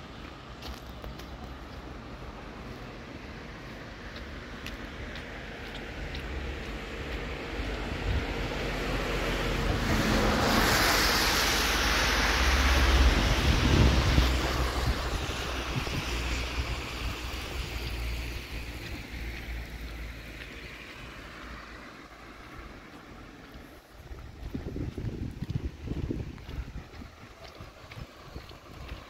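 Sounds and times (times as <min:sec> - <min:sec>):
tyre hiss on a wet road: 0:00.0 - 0:24.8.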